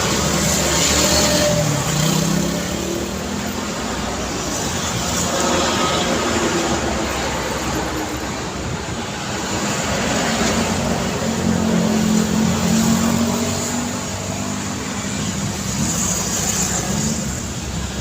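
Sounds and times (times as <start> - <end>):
vehicle engines passing: 0.0 - 18.0.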